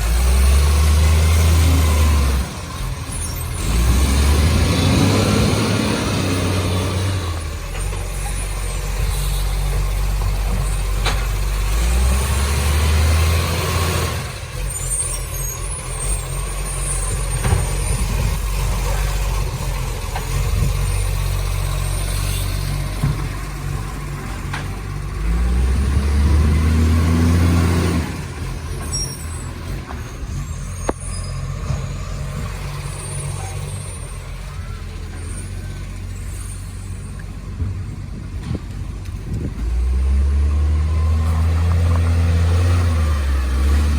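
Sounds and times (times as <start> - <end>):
garbage truck engine revving: 0.0 - 43.9.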